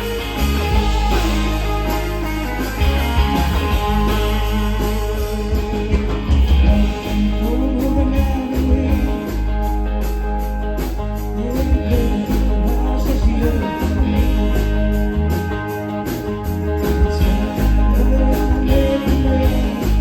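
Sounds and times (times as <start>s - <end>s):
guitar: 0.0s - 20.0s
heavy bass line: 0.0s - 20.0s
live band playing: 0.0s - 20.0s.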